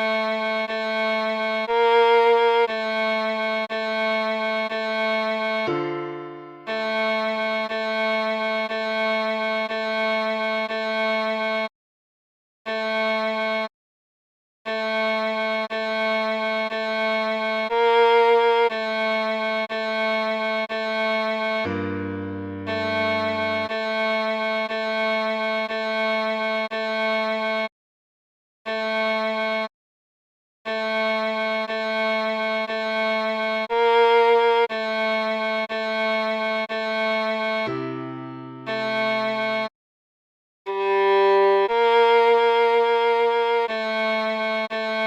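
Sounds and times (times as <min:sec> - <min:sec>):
viola playing slow melody: 0:00.0 - 0:11.7, 0:12.7 - 0:13.7, 0:14.7 - 0:27.7, 0:28.7 - 0:29.7, 0:30.7 - 0:39.7, 0:40.7 - 0:45.0.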